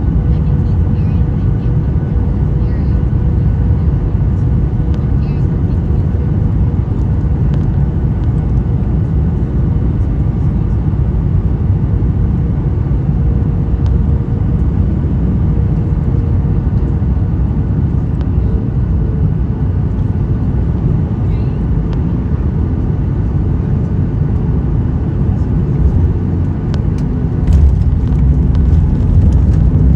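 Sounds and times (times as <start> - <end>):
jet engine and airflow rumble: 0.0 - 29.9.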